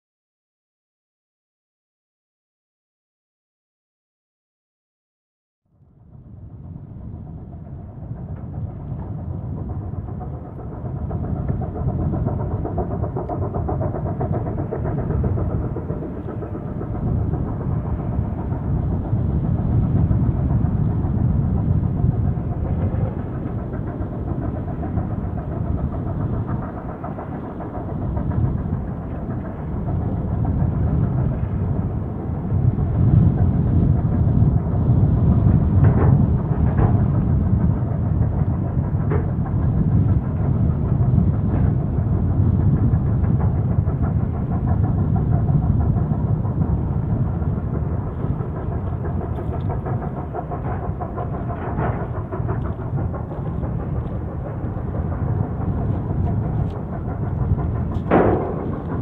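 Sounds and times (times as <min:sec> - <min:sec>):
steam locomotive exhaust beat: 0:06.0 - 0:59.0.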